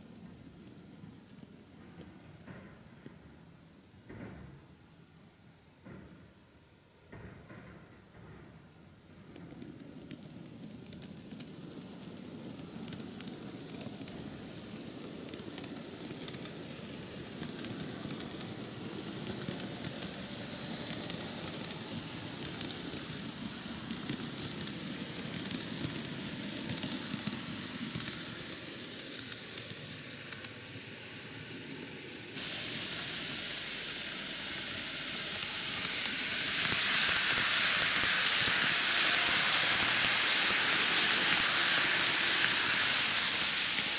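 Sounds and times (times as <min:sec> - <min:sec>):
model train rattling on track: 0:07.5 - 0:43.9.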